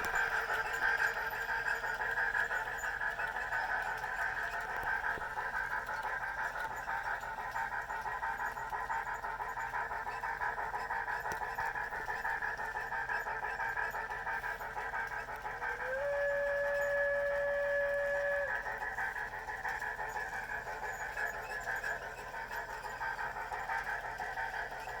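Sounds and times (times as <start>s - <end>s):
steam chuffing from small speaker: 0.0s - 25.0s.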